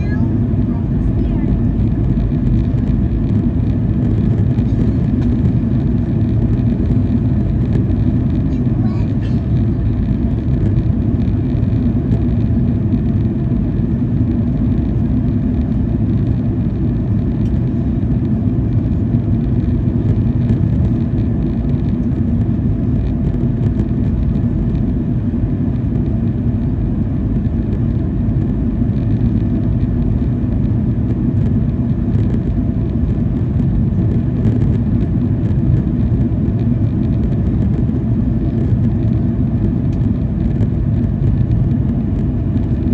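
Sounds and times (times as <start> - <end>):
jet engine and airflow rumble: 0.0 - 42.9.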